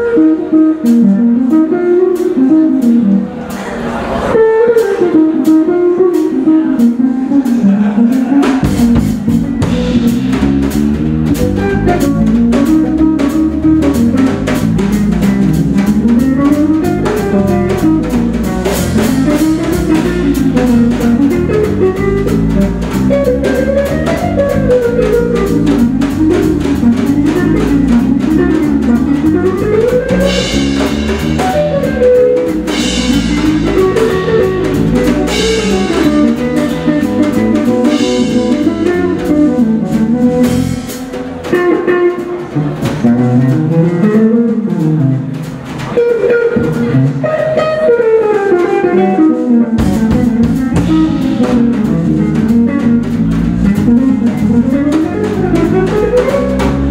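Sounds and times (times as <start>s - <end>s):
bass: 0.0s - 56.9s
drum kit: 0.0s - 56.9s
guitar melody: 0.0s - 56.9s.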